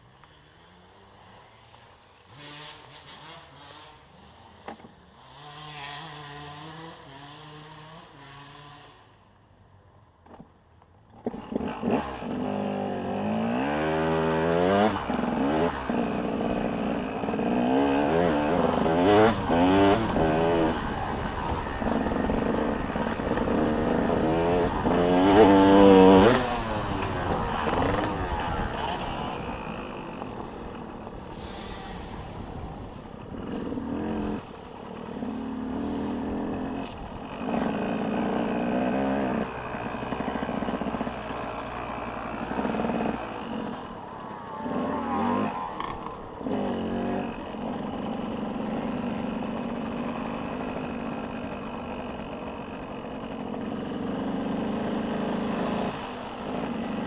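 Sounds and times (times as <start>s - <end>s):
motocross bike engines revving: 0.3s - 9.1s, 11.2s - 57.0s.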